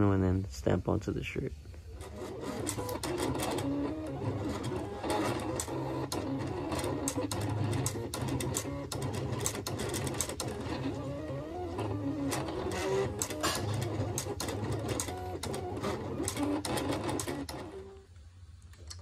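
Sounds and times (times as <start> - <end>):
vinyl cutter motors whirring: 1.8 - 18.1
vinyl cutter clicking: 1.9 - 18.1.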